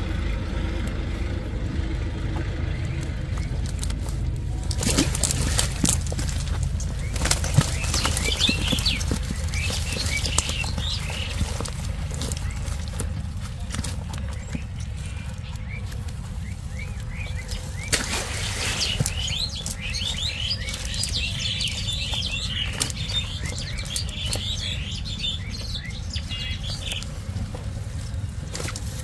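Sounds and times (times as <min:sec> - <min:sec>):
small birds chirping: 0:00.0 - 0:29.0
steady low rumble: 0:00.0 - 0:29.0.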